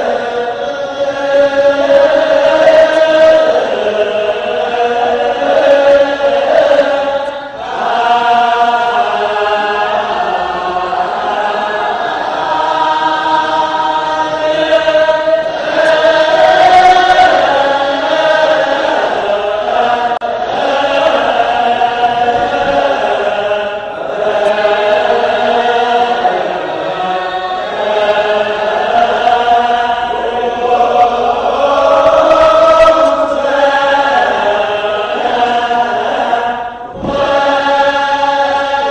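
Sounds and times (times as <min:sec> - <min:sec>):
choir chanting a hymn: 0:00.0 - 0:38.9.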